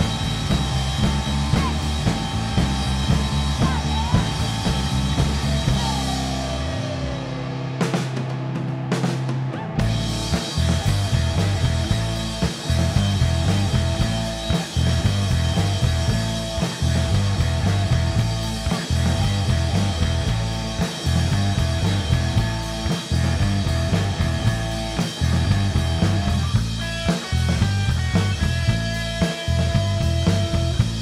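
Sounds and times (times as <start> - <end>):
heavy bass line: 0.0 - 31.0
live rock band playing: 0.0 - 31.0
steady drumming: 0.0 - 31.0.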